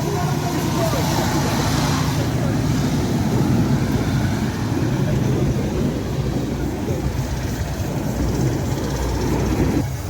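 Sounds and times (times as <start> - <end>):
diesel train rumbling: 0.0 - 10.0.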